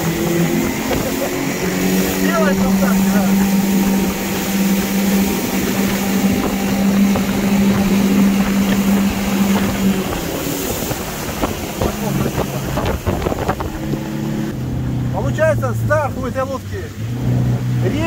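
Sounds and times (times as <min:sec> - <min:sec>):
wind buffeting microphone: 0:00.0 - 0:15.2
outboard motor droning: 0:00.0 - 0:18.0.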